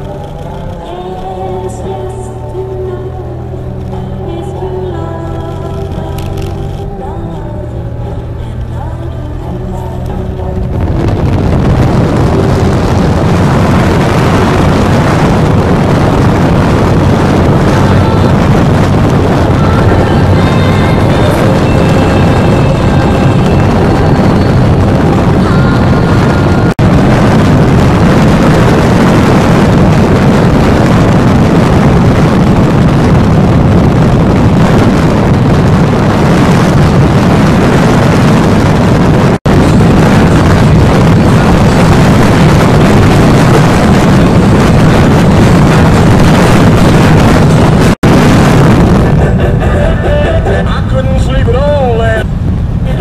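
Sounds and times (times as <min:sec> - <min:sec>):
motorcycle engine: 0:00.0 - 0:50.7
wind rushing over microphone: 0:00.0 - 0:53.0.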